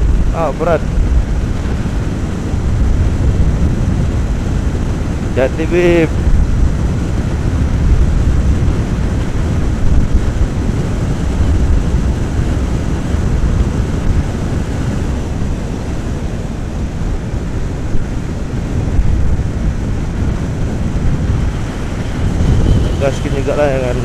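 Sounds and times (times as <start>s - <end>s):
motorcycle engine and road noise: 0.0s - 24.0s
wind buffeting microphone: 0.0s - 24.0s.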